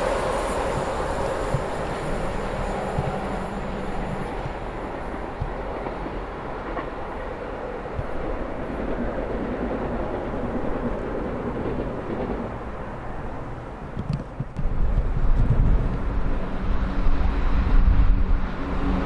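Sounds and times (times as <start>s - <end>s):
diesel train rumbling: 0.0s - 19.0s
train wheels on rails: 0.0s - 19.0s.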